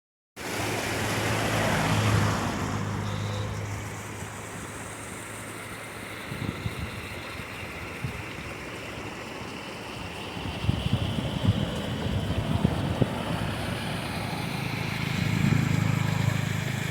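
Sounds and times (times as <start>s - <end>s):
low engine-like hum: 0.4s - 16.9s
water rushing: 0.4s - 16.9s.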